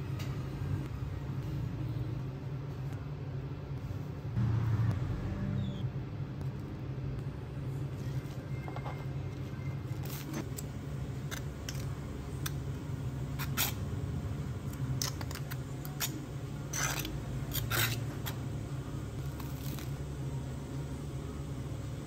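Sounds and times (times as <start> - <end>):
low machinery hum: 0.0 - 22.0.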